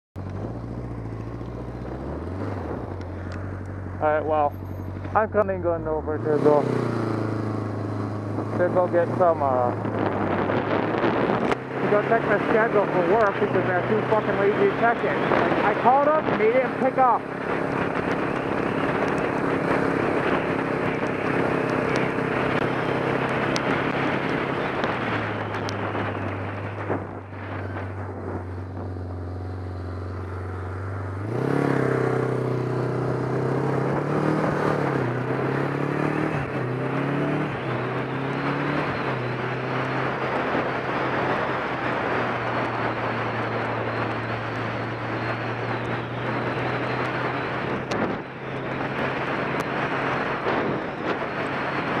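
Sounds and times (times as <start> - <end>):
motorcycle engine: 0.2 - 52.0.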